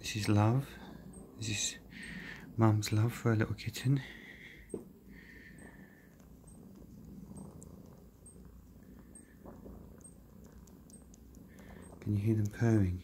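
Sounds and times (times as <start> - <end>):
cats purring: 0.0 - 13.0.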